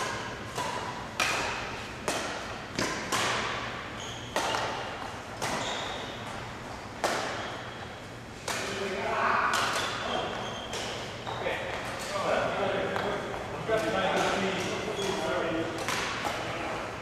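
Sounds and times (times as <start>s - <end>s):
rackets hitting shuttlecock: 0.0s - 16.7s.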